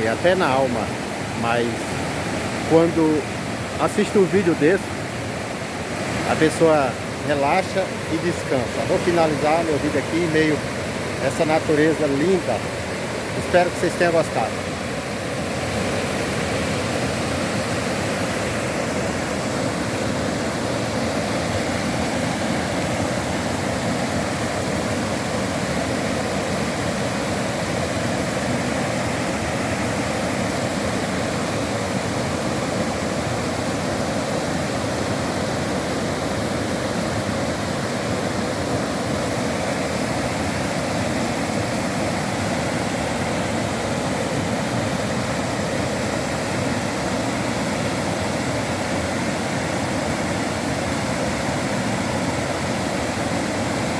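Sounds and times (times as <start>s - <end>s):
flowing water rushing: 0.0s - 53.9s.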